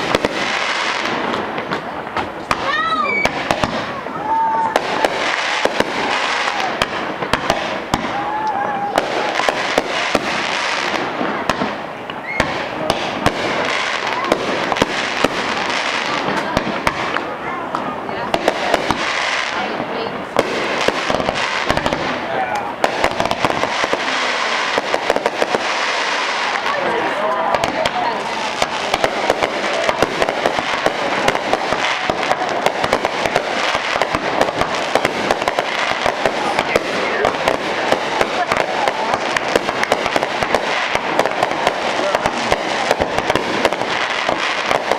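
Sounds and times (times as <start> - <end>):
fireworks bangs: 0.0 - 44.9.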